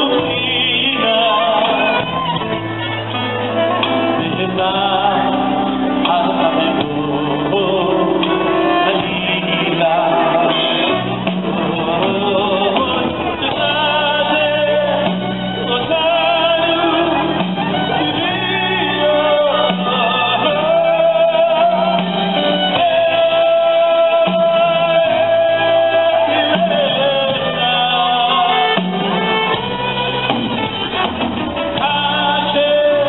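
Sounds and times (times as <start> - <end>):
man singing with wavering voice: 0.0 - 2.4, 4.0 - 29.4, 31.7 - 33.0
keyboard and band accompaniment: 0.0 - 33.0.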